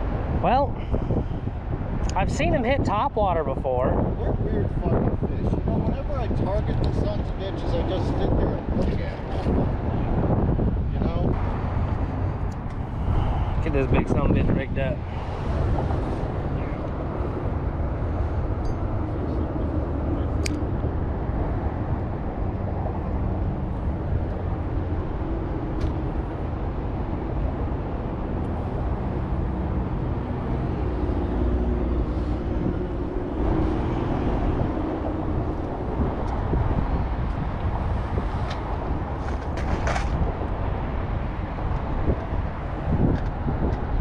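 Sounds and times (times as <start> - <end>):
wind rumbling against microphone: 0.0 - 44.0.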